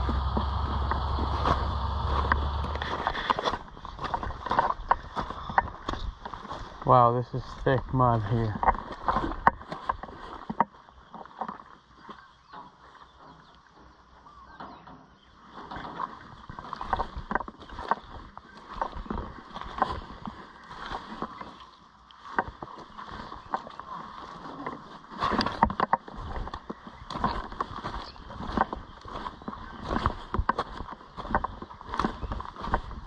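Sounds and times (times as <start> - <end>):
footsteps squelching in mud: 0.0 - 13.6, 15.4 - 33.0.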